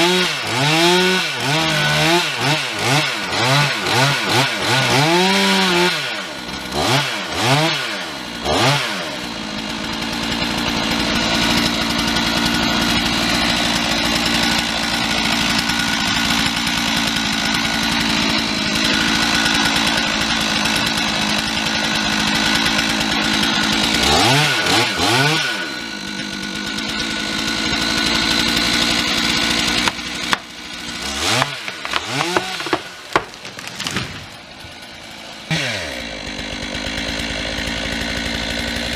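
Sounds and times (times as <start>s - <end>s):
chainsaw revving and cutting: 0.0s - 38.9s.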